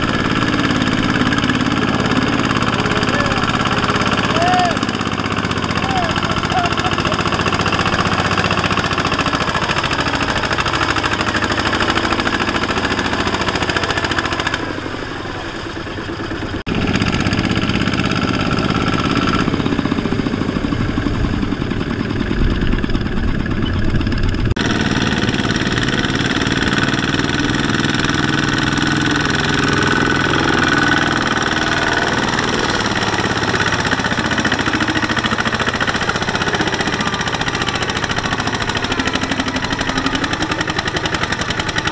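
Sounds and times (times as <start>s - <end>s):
diesel engine chugging under load: 0.0s - 41.9s.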